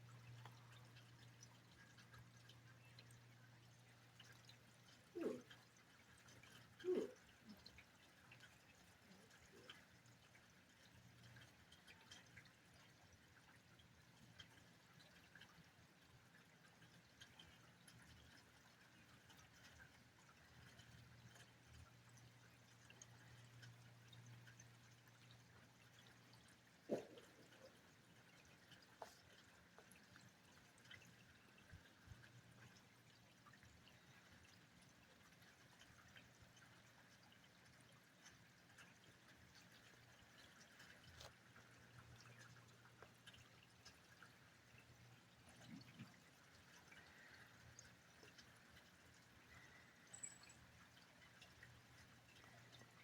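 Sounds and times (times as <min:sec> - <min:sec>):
faint rain dripping: 0:00.0 - 0:53.0.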